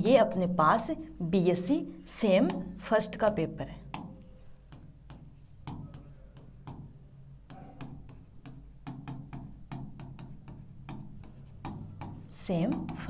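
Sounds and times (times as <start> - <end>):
stylus tapping on touchscreen: 2.3 - 13.0.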